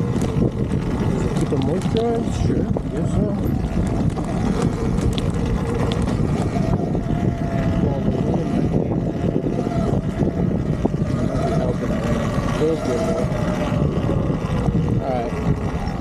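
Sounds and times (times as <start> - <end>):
drivetrain and tyre rumble: 0.0 - 16.0
electric motor whine: 0.0 - 16.0.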